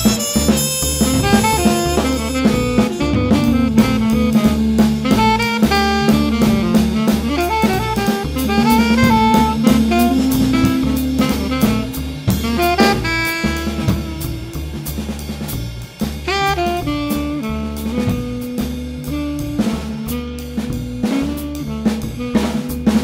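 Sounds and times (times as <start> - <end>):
drum kit beat: 0.0 - 23.0
jazz with horn melody: 0.0 - 23.0.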